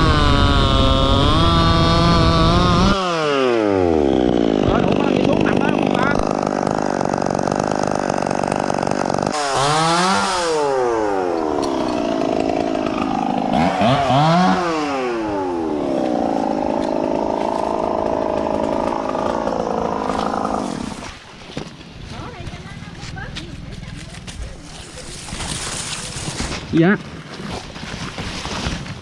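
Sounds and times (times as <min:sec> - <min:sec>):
chainsaw running: 0:00.0 - 0:28.0.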